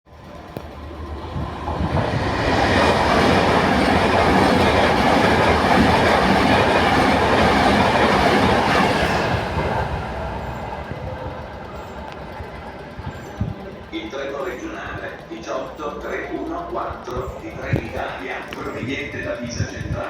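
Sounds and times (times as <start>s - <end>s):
train wheels rumbling on track: 0.1s - 20.0s.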